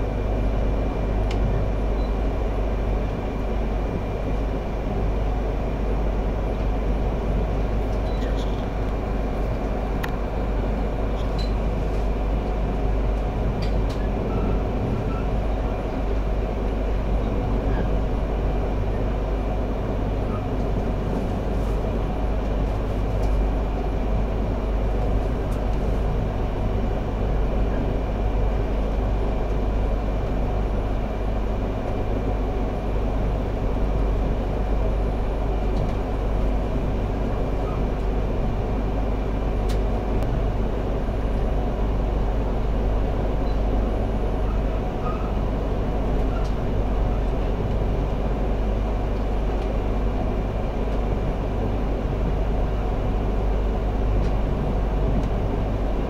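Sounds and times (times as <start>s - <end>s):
train running rumble and hiss: 0.0s - 56.0s.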